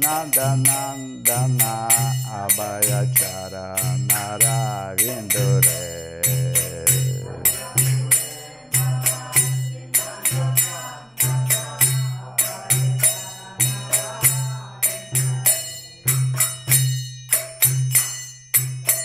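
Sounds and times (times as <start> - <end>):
hand cymbals clashing: 0.0 - 19.0.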